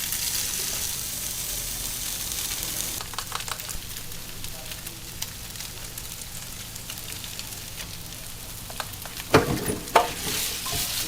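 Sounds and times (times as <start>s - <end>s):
batter sizzling in metal molds: 0.0s - 11.0s.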